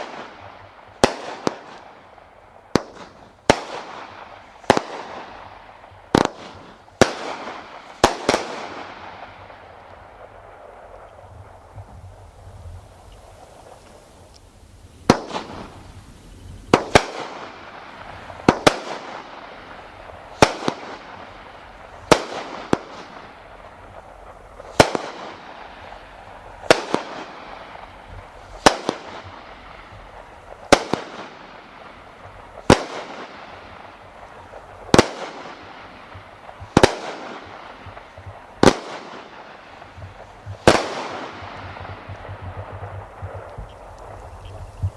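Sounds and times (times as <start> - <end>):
fireworks bangs: 0.0 - 14.3, 14.9 - 44.9.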